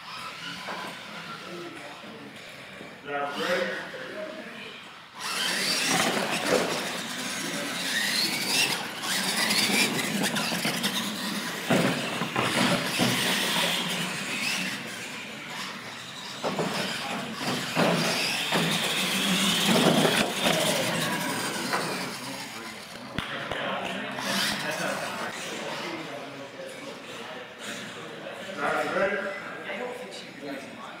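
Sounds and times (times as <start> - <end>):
toy truck motors whining: 0.0 - 23.2, 24.0 - 29.3.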